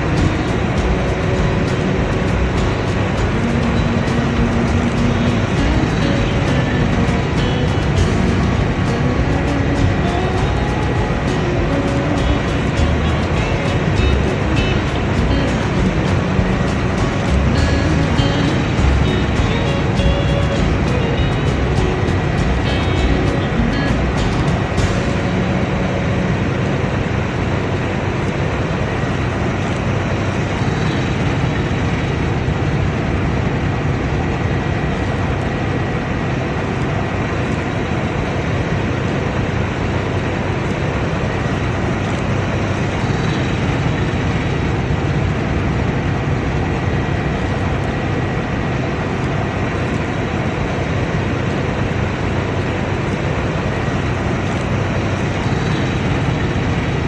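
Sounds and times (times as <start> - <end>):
combine harvester engine: 0.0 - 57.0.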